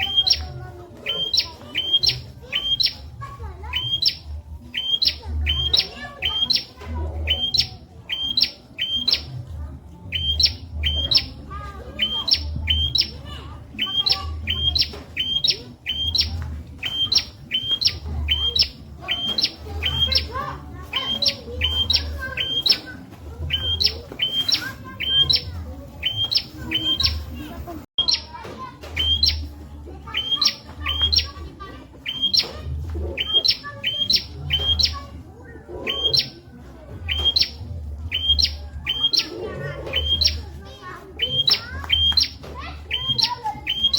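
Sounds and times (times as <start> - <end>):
songbird chirping: 0.0 - 43.9.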